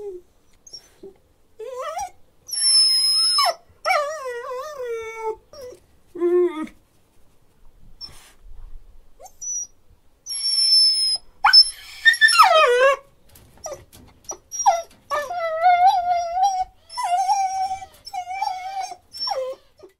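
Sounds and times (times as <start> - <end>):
dog whining: 0.0 - 6.8, 9.2 - 9.7, 10.3 - 19.9.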